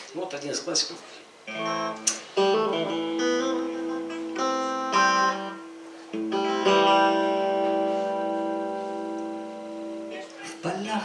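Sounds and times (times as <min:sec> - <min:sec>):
guitar chords ringing: 0:01.5 - 0:11.0.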